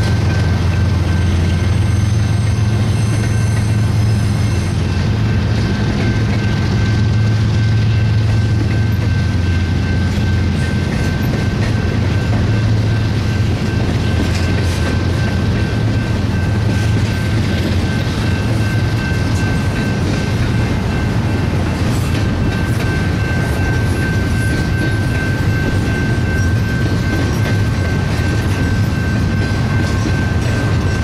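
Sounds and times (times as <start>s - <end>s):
freight train rumbling on rails: 0.0s - 31.0s.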